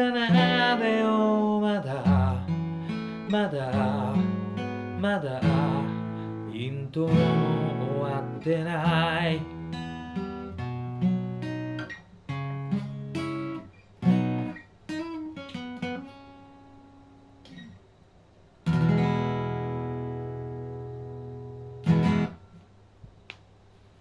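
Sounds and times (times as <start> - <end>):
acoustic guitar strumming: 0.0 - 17.8, 18.6 - 22.6.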